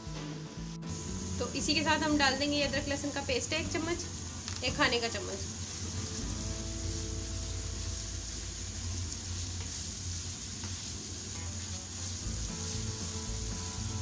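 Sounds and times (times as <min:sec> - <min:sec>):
minced meat sizzling in oil: 0:00.0 - 0:14.0
spatula stirring in wok: 0:02.2 - 0:14.0.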